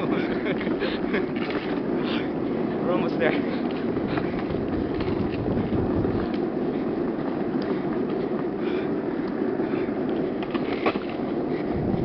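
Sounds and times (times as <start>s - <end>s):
chair casters rolling on asphalt: 0.0s - 12.0s.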